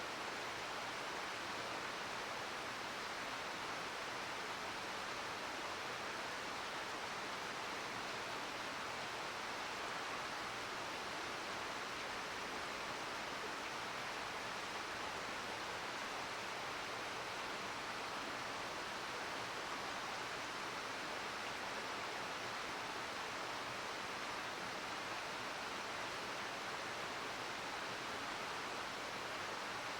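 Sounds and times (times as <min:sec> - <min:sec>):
river flowing over rocks: 0:00.1 - 0:29.9.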